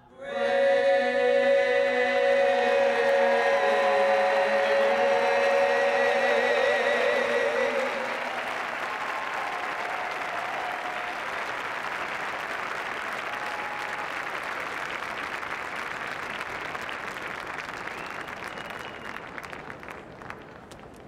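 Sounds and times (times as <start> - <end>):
large crowd applauding: 2.6 - 21.0.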